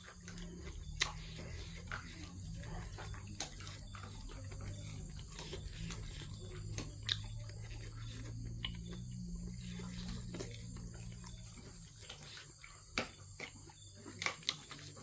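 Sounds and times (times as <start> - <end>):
chewing and lip-smacking: 0.0 - 15.0
steady low hum: 0.0 - 15.0.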